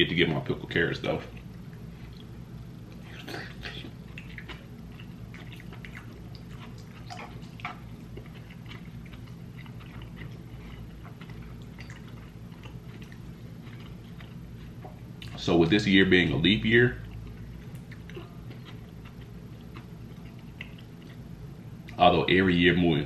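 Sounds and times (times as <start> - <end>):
low hum: 0.0 - 23.0
wet chewing and mouth clicks: 1.2 - 15.5, 17.0 - 22.0.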